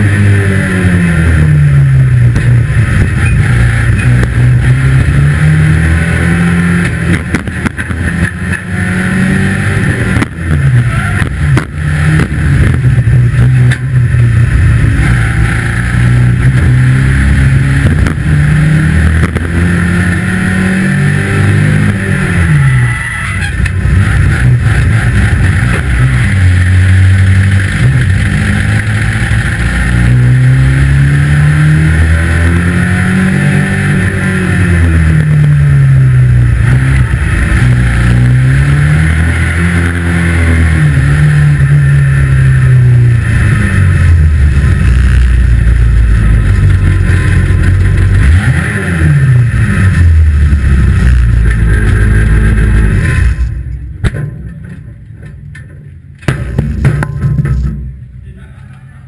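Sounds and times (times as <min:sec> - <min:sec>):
racing car engine revving: 0:00.0 - 0:55.3
road and wind noise: 0:00.0 - 0:59.0.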